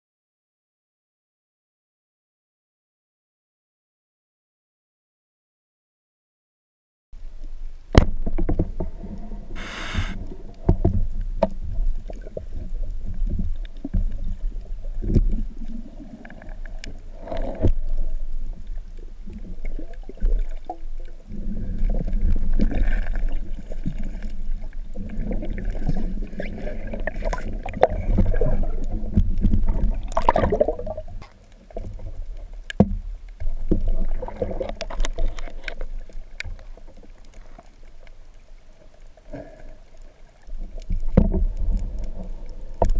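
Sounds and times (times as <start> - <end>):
underwater rumble of moving water: 7.2 - 42.9
water gurgling: 7.8 - 42.9.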